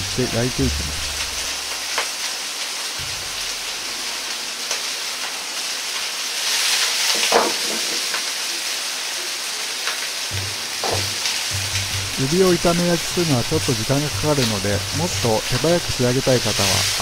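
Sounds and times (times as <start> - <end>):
shrimp sizzling in a wok: 0.0 - 17.0.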